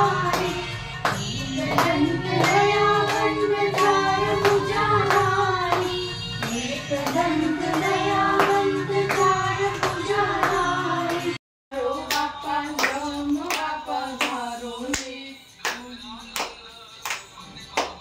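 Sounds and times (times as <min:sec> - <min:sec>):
women singing: 0:00.0 - 0:17.2
hand claps: 0:00.2 - 0:11.4, 0:12.1 - 0:18.0.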